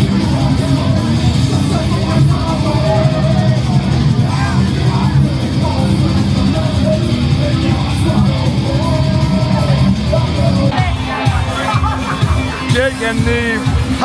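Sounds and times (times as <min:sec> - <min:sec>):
loud guitar rock music: 0:00.0 - 0:14.0
person singing: 0:00.0 - 0:14.0.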